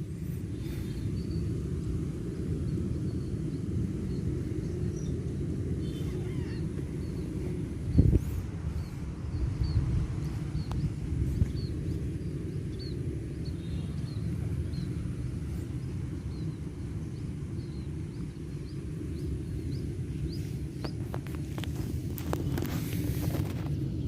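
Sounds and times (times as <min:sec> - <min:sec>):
steady low rumble: 0:00.0 - 0:24.0
small bird chirping: 0:00.5 - 0:01.6, 0:02.4 - 0:22.8.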